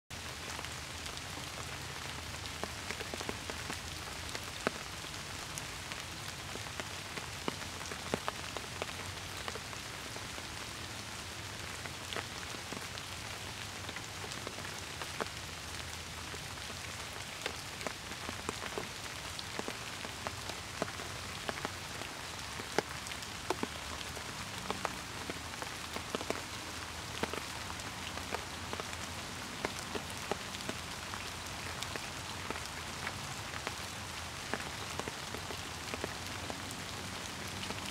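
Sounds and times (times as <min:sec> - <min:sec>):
steady rain hiss: 0:00.1 - 0:37.9
raindrops ticking: 0:00.2 - 0:37.9.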